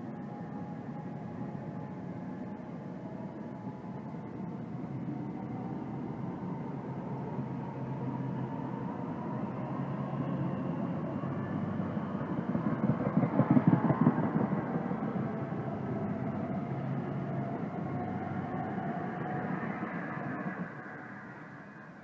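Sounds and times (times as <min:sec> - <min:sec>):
train wheels rumbling on rails: 0:00.1 - 0:21.8.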